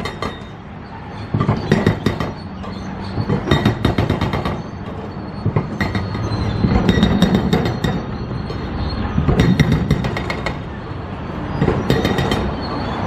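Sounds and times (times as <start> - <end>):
metallic clanking and rattling: 0.0 - 10.8.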